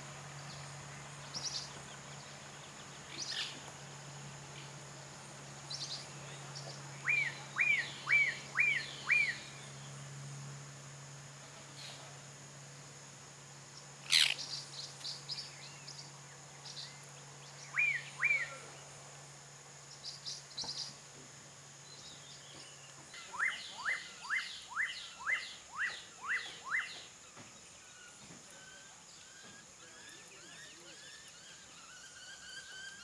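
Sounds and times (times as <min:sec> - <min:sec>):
birds chirping: 0:00.1 - 0:10.6, 0:13.6 - 0:21.1, 0:21.7 - 0:33.0.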